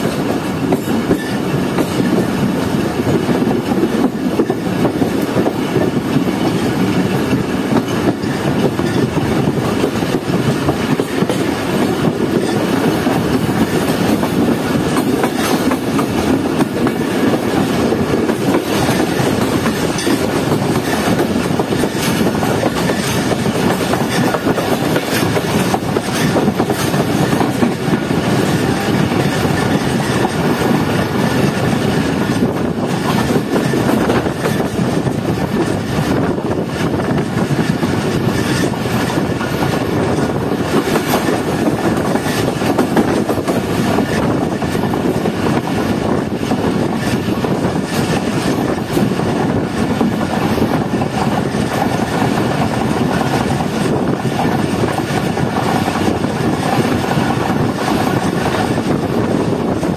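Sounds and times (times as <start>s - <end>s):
train wheel and wind rush: 0.0s - 59.9s
wheels clacking over rail joints: 0.0s - 59.9s.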